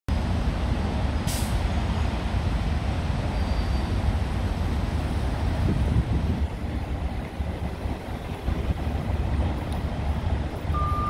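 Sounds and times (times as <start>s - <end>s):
city traffic on wet street: 0.1s - 11.0s.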